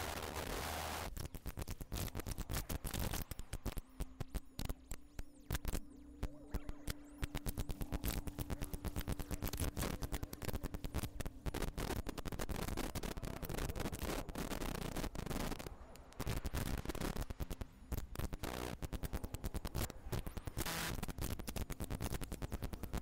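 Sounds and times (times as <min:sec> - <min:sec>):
crackling electronic glitches: 0:00.0 - 0:23.0
steady low electronic tone: 0:02.2 - 0:23.0.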